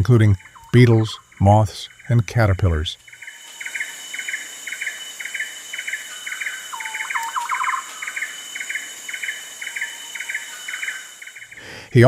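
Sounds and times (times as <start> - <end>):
birds calling: 0.0 - 12.0
insect drone: 0.0 - 12.0.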